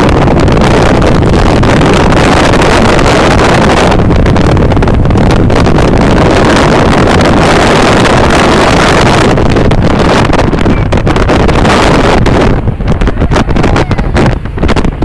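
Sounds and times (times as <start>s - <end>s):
boat engine at high speed: 0.0s - 15.0s
water rushing: 0.0s - 15.0s
wind buffeting microphone: 0.0s - 15.0s.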